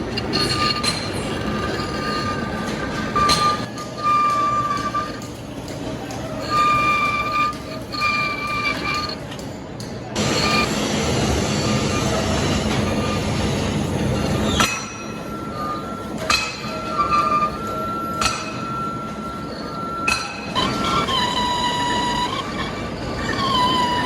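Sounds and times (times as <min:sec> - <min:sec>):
metal lathe whining: 0:00.0 - 0:24.0.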